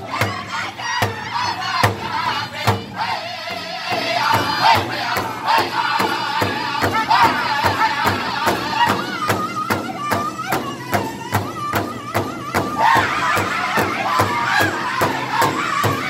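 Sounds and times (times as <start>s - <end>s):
large drum beating: 0.0s - 16.0s
men singing in high voices: 0.0s - 16.0s.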